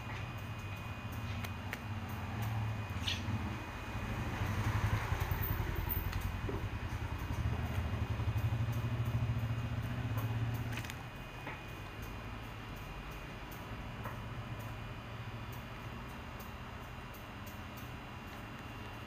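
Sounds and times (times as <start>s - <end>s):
engine droning: 0.0s - 16.9s.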